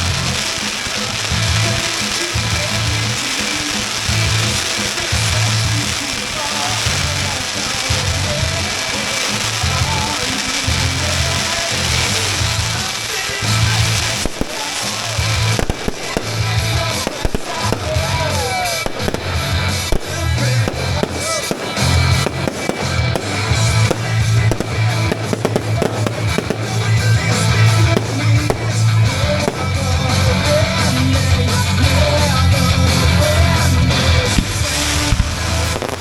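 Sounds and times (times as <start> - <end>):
fireworks cracking: 0.0 - 36.0
loud music with heavy bass: 0.0 - 36.0.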